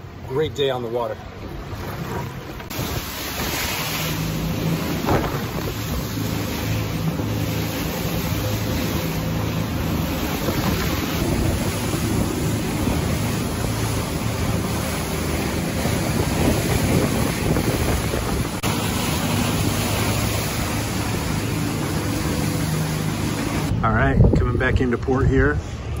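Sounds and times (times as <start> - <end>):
water slapping against hull: 0.0 - 24.4
boat engine hum: 0.0 - 26.0
wind buffeting microphone: 1.2 - 26.0.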